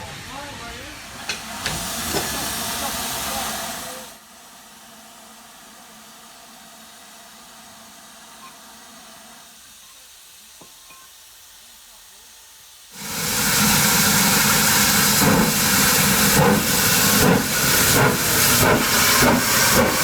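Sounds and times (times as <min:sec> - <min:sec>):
loud hiss of released steam: 0:00.0 - 0:20.0.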